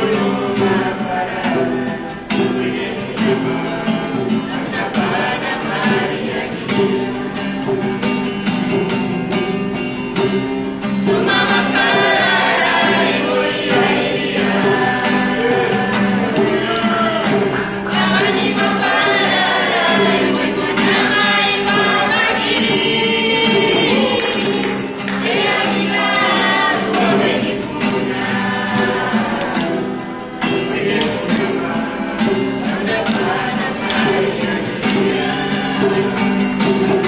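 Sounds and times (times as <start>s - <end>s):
group singing a hymn: 0.0s - 37.0s
strummed acoustic guitar: 0.0s - 37.0s.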